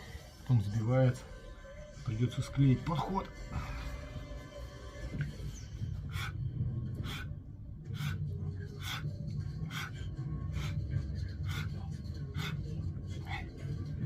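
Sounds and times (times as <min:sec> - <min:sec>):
television playing: 0:00.0 - 0:14.0.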